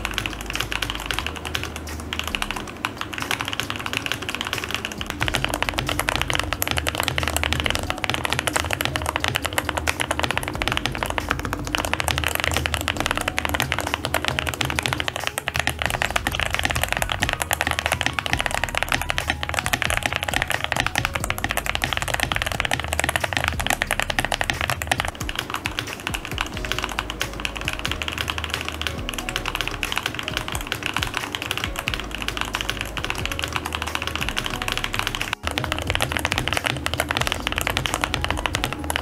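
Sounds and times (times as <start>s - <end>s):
background music: 0.0s - 39.0s
fast mechanical keyboard typing: 0.0s - 39.0s.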